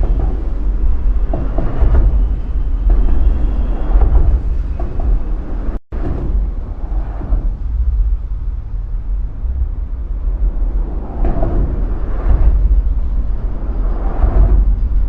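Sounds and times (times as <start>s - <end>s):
bridge structure rumbling: 0.0s - 15.0s.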